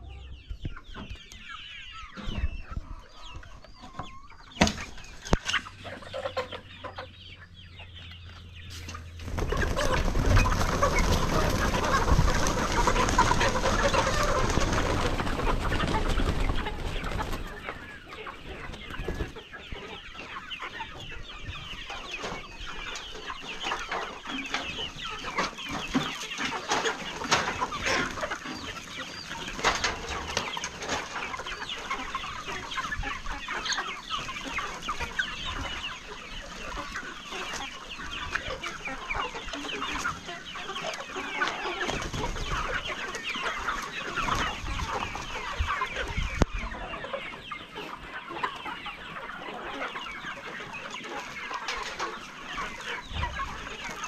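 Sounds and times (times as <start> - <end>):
hens clucking: 0.0 - 54.0.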